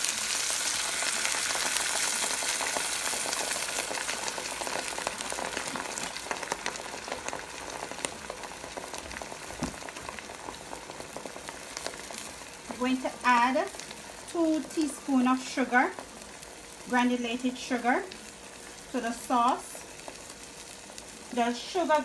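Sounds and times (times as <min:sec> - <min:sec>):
sauce sizzling in frying pan: 0:00.0 - 0:22.0.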